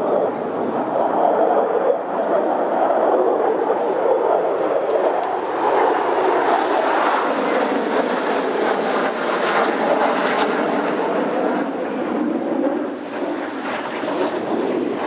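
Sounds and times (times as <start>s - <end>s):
jet fighters flying over: 0.0s - 15.0s.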